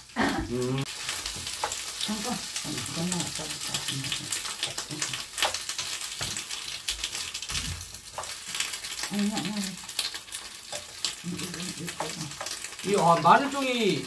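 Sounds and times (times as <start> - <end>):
vegetables sizzling in a frying pan: 0.0 - 14.0
wooden spatula stirring: 0.9 - 14.0.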